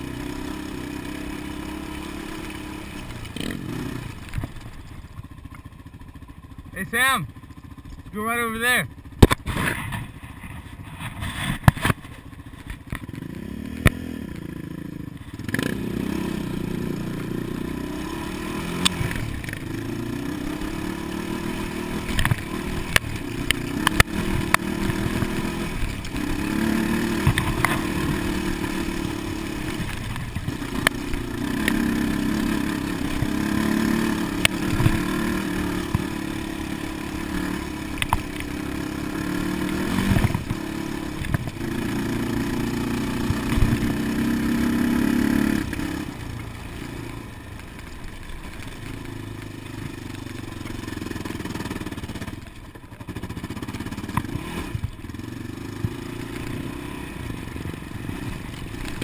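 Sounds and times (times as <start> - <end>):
quad engine revving: 0.0 - 4.7, 12.9 - 59.0.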